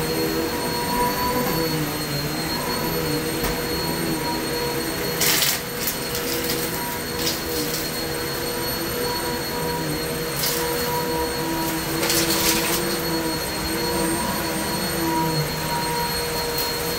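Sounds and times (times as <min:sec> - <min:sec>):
vacuum cleaner motor whine: 0:00.0 - 0:16.9.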